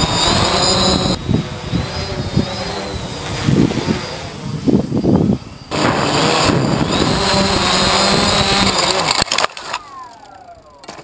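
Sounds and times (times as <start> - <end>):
wind buffeting microphone: 0.0 - 9.1
drone motors and propellers: 0.0 - 11.0
motors winding down whine: 0.0 - 11.0.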